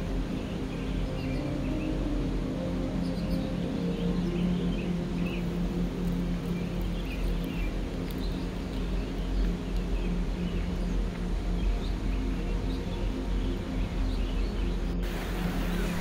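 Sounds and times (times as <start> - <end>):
birds chirping: 0.0 - 16.0
steady low drone: 0.0 - 16.0.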